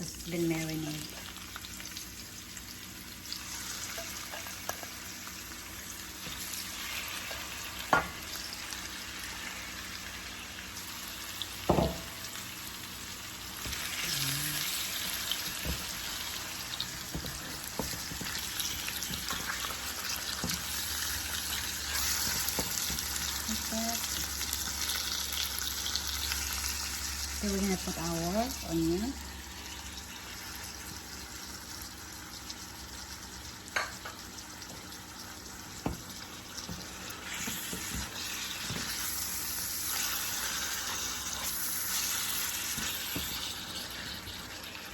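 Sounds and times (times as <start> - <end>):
meat sizzling in a pan: 0.0 - 44.9.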